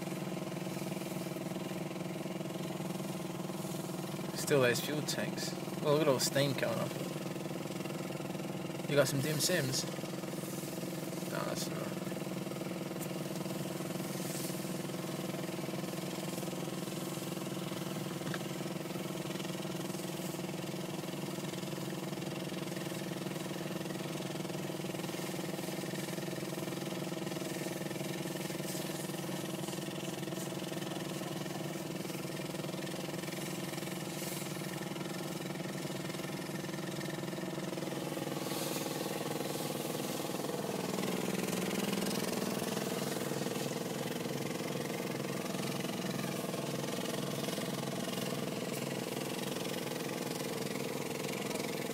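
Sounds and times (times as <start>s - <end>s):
vehicle engine idling: 0.0s - 51.9s.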